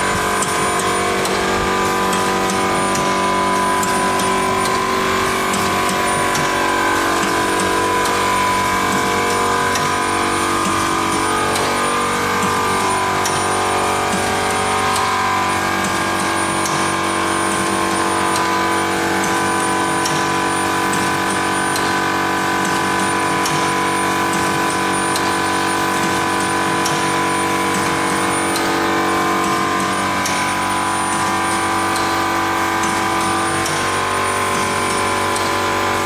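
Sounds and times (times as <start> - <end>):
machine drive humming: 0.0 - 36.0.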